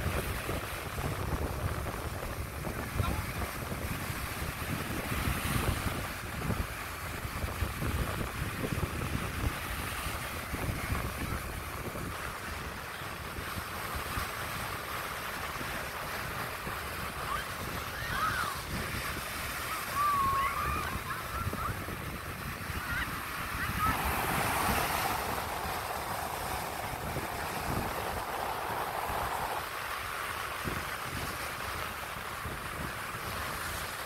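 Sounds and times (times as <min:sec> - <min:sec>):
small waves breaking on sand: 0:00.0 - 0:34.0
wind buffeting microphone: 0:00.0 - 0:34.0.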